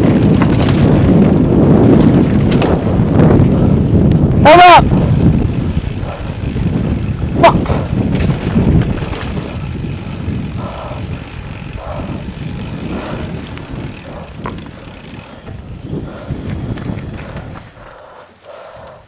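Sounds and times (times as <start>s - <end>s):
bike rattling down rocky trail: 0.0s - 18.9s.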